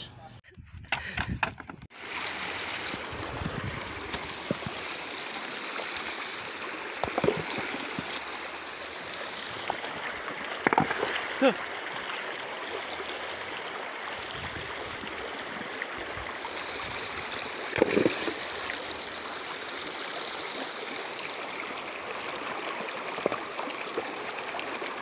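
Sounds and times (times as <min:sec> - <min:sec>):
river water over rocks: 0:01.9 - 0:25.0.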